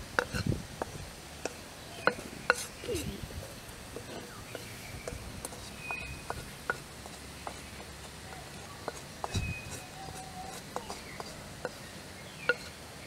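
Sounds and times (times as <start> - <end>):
food sizzling in a metal pan: 0.0 - 13.0.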